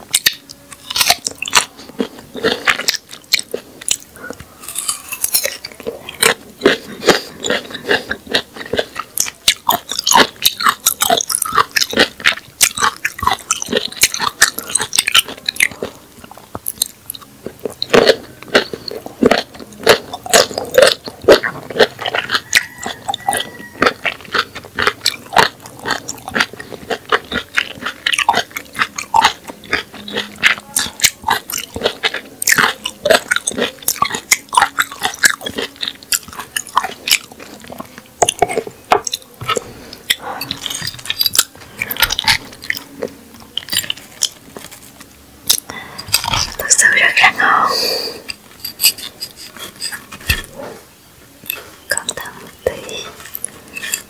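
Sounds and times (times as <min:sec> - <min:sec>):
crisp crunching of cactus pad: 0:00.2 - 0:16.0, 0:16.6 - 0:47.6.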